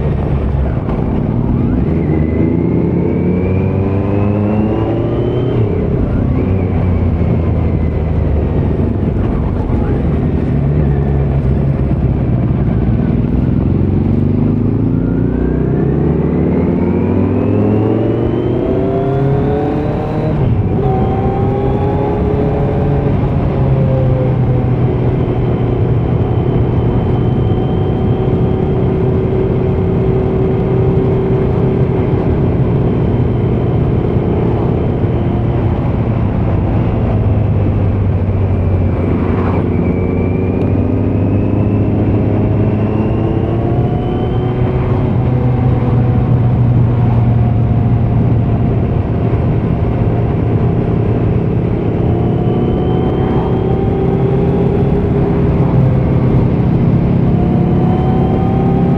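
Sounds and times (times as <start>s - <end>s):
motorcycle engine while riding: 0.0s - 58.9s.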